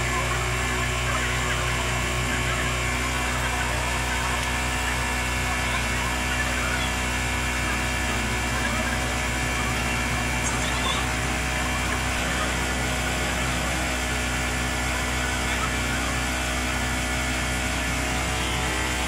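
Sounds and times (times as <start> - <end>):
machine drone: 0.0 - 19.0.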